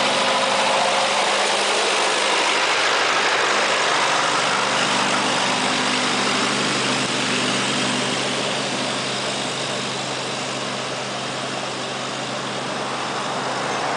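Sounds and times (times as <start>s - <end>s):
broad rushing noise: 0.0s - 13.9s
vehicle engine idling: 0.0s - 13.9s.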